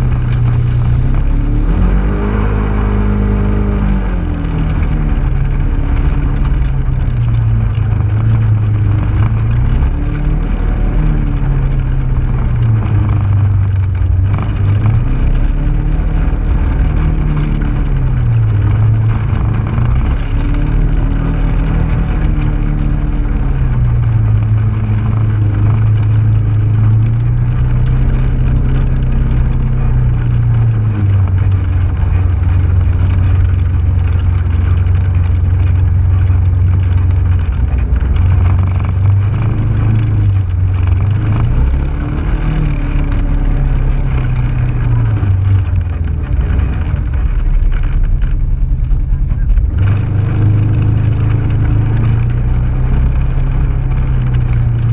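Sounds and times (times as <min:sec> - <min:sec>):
off-road vehicle engine running: 0:00.0 - 0:54.9.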